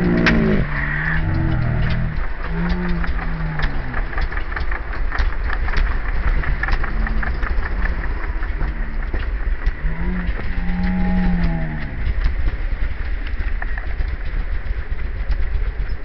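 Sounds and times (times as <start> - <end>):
irregular clicking: 0.0 - 16.0
motorcycle engine throttle blips: 0.0 - 16.0.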